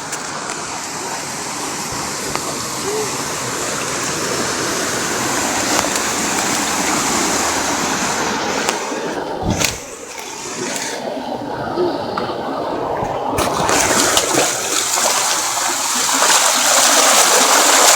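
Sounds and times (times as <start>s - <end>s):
flowing water rushing: 0.0s - 17.9s.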